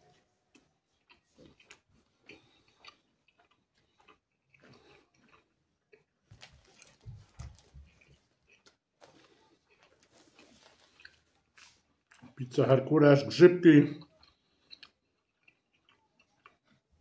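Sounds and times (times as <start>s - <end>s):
chewing and mouth clicks: 0.1s - 12.5s, 13.8s - 17.0s.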